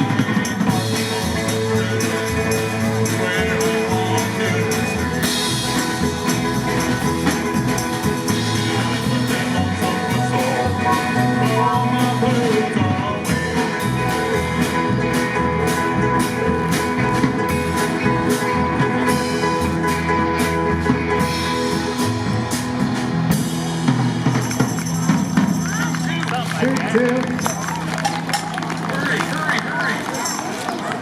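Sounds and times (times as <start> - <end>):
rock band playing: 0.0 - 30.7.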